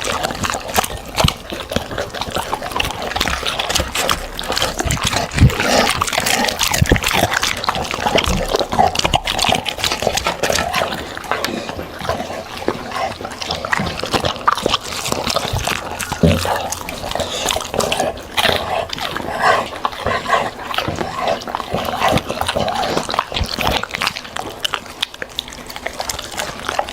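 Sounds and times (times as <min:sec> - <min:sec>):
dog chewing wetly: 0:00.0 - 0:26.9.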